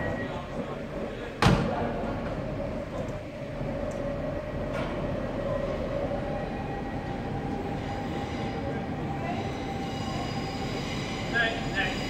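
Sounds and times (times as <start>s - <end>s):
train electrical equipment humming: 0.0s - 12.0s.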